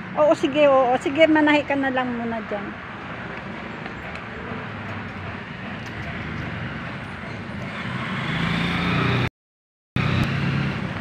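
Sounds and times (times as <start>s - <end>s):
road traffic rumble: 0.0s - 9.3s, 10.0s - 11.0s.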